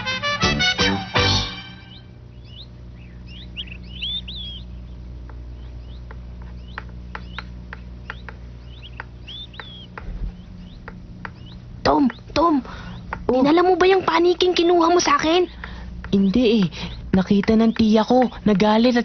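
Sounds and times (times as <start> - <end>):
steady low hum: 0.0 - 19.0
small birds chirping: 1.4 - 19.0.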